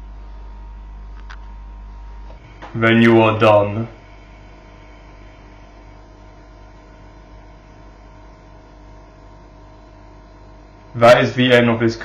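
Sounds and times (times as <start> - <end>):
steady hum and faint hiss: 0.0 - 12.0.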